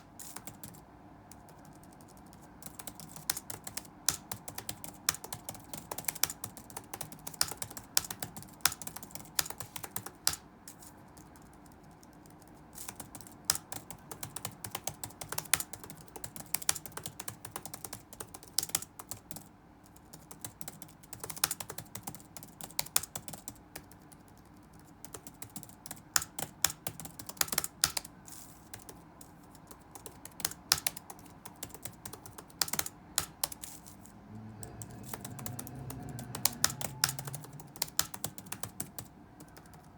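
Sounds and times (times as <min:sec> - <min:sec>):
faint steady hum: 0:00.0 - 0:39.9
typing on computer keyboard: 0:00.1 - 0:39.9.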